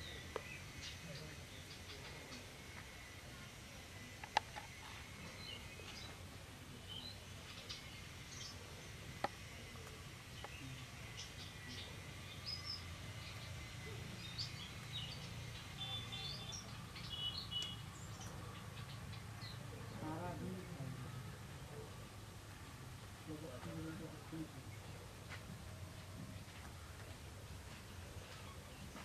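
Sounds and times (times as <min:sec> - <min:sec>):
low steady hum: 0:00.0 - 0:29.0
small birds chirping: 0:00.0 - 0:29.0.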